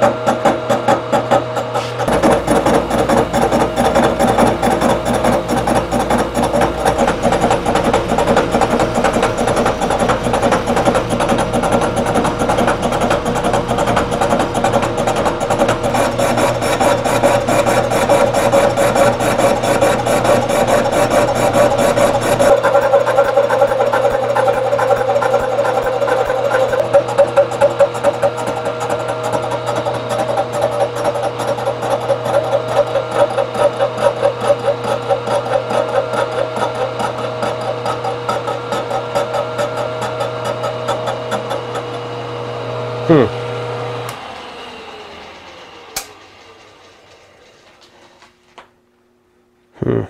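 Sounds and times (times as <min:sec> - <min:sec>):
milling machine whine: 0:00.0 - 0:48.6.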